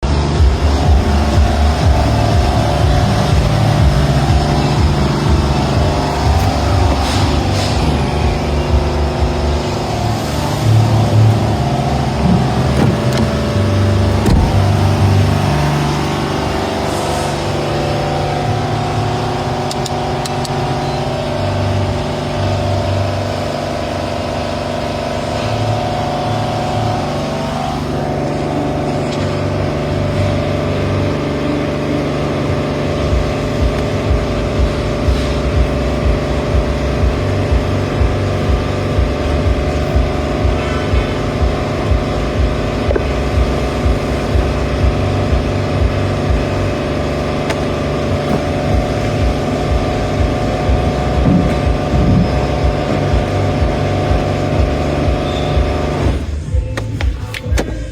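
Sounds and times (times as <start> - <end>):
car engine running: 0.0 - 57.9
low pulsing: 0.0 - 57.9.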